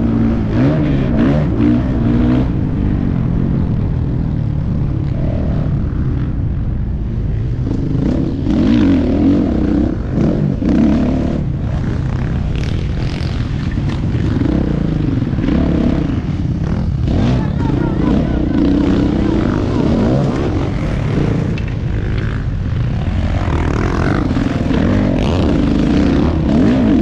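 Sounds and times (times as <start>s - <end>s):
dirt bike engine revving: 0.0s - 3.7s, 7.6s - 27.0s.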